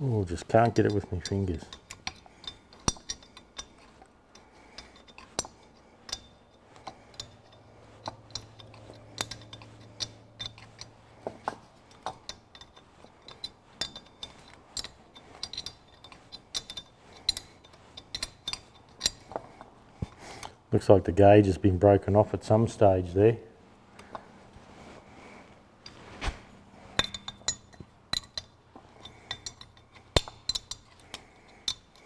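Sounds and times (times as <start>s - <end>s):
spanner and bolts clinking on metal: 0.0s - 20.6s, 26.8s - 32.0s.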